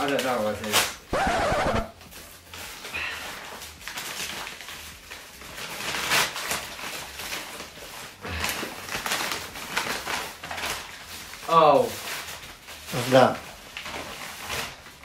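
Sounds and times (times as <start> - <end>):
plastic mailer bag crinkling: 0.0 - 15.0.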